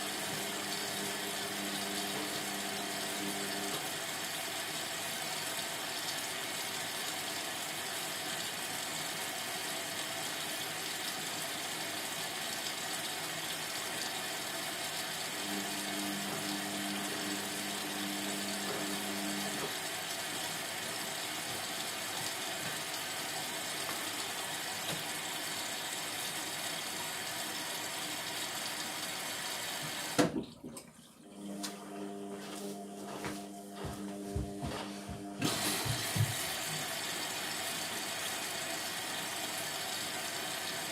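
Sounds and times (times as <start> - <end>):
washing machine filling with water: 0.0 - 40.9.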